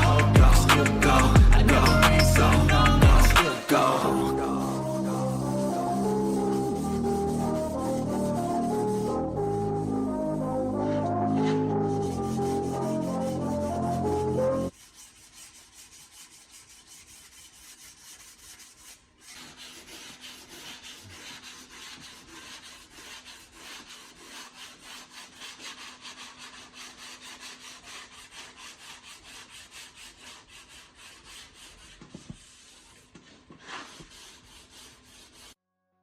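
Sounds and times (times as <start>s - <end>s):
hand sanding strokes: 0.0s - 35.6s.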